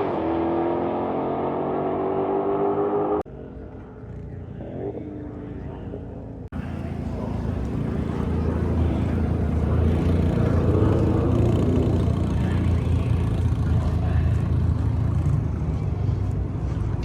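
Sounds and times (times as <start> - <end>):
car engine running at low revs: 1.1 - 17.0.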